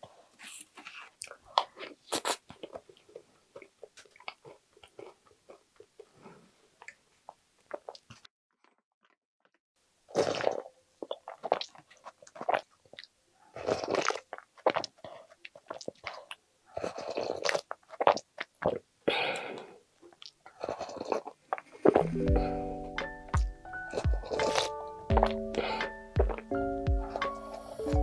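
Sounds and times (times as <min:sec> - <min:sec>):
slurping and chewing: 0:00.4 - 0:07.1, 0:07.7 - 0:08.8, 0:10.1 - 0:28.0.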